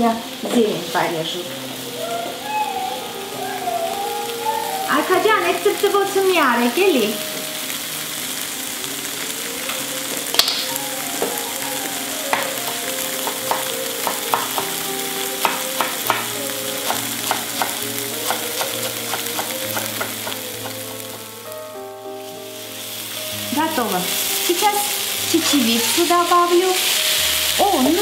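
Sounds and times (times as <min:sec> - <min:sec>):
sauce sizzling in a frying pan: 0:00.0 - 0:28.0.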